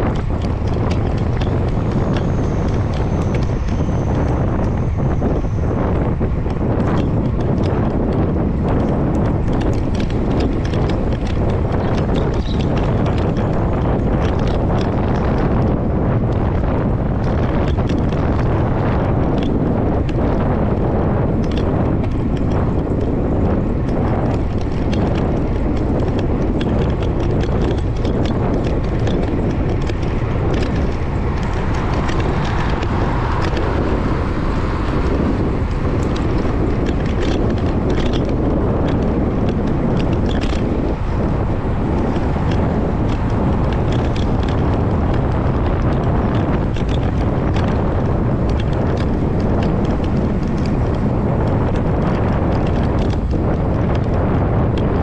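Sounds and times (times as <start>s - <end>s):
bicycle clicks and rattles: 0.0s - 55.0s
wind rushing over microphone: 0.0s - 55.0s.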